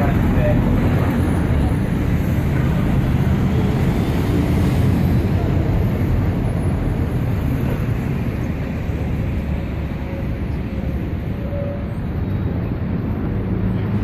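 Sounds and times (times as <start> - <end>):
bus engines: 0.0 - 14.0
road traffic rumble: 0.0 - 14.0.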